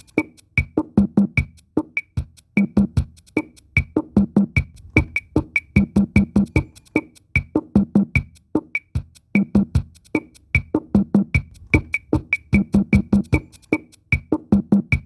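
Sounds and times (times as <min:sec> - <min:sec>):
percussion music: 0:00.0 - 0:15.0.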